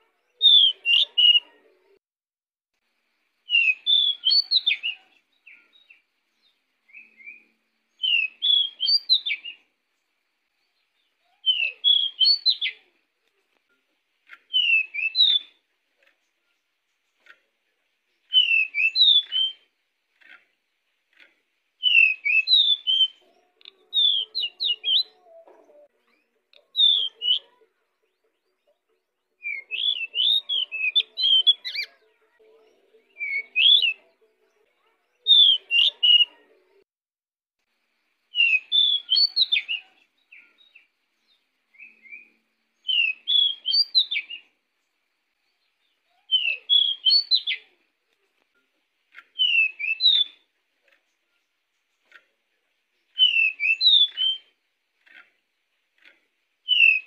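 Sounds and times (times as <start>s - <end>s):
bird singing warbled phrases: 0.0s - 2.0s, 3.2s - 36.9s, 38.2s - 57.0s.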